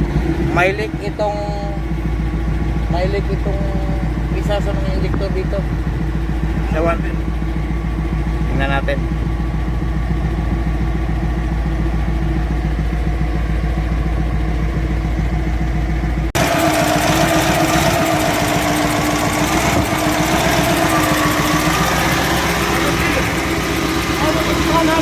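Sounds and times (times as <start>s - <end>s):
diesel engine running: 0.0s - 25.0s
wavering hum: 0.0s - 25.0s.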